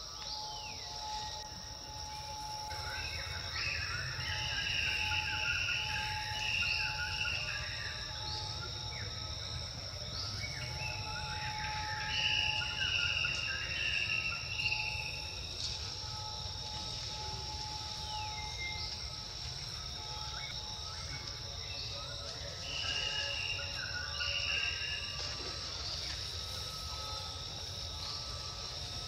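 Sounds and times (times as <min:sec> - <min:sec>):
insects buzzing: 0:00.0 - 0:29.0.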